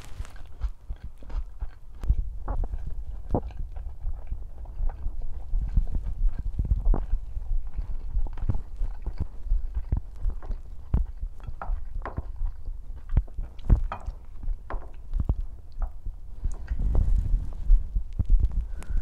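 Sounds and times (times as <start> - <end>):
low belly rumble: 0.0 - 19.0.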